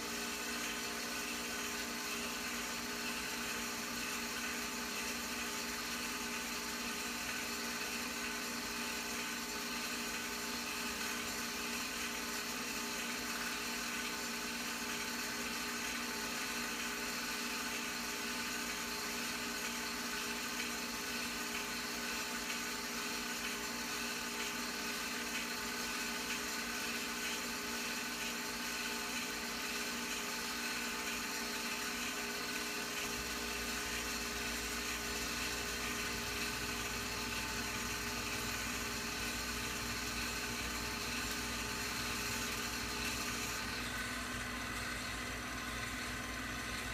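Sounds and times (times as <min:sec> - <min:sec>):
film projector motor whir: 0:00.0 - 0:46.9.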